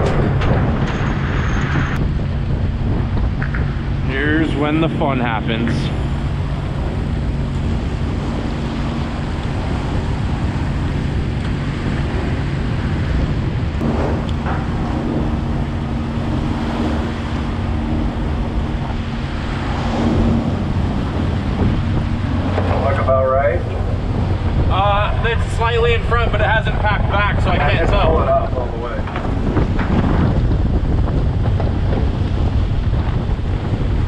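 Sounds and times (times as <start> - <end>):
boat engine humming: 0.0 - 34.0
sea water rushing: 0.0 - 34.0
steady hum: 0.0 - 34.0
wind buffeting microphone: 0.0 - 34.0.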